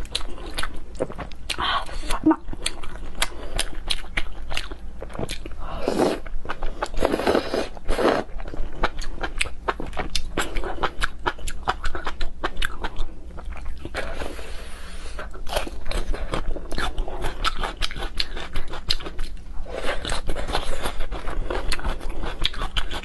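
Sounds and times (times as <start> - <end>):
chewing and crunching: 0.0 - 23.0.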